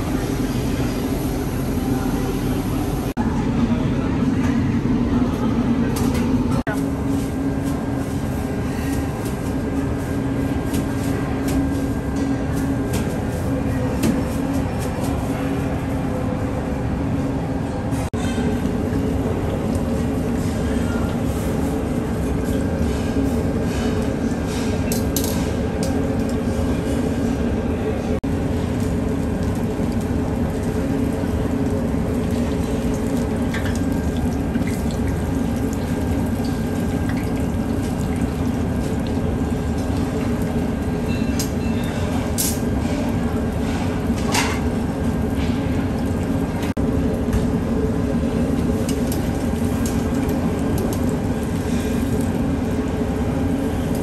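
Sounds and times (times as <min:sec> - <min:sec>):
commercial kitchen noise: 0:00.0 - 0:54.0.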